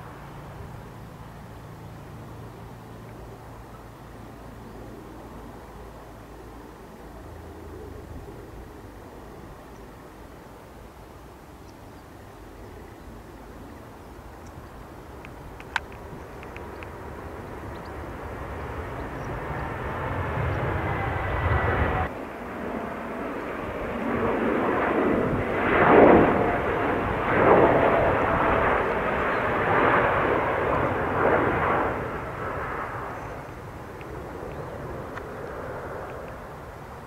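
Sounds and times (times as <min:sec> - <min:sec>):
jet engine roar: 0:00.0 - 0:11.6, 0:12.4 - 0:37.0
faint jet engine whine: 0:00.0 - 0:37.0.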